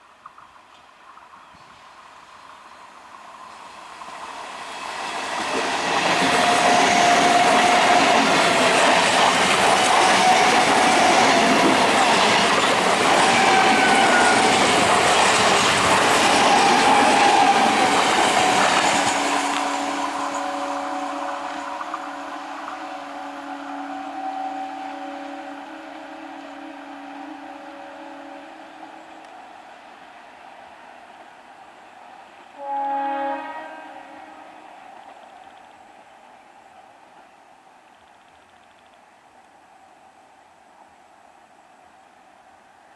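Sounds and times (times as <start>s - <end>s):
electric train passing: 0.3s - 42.9s.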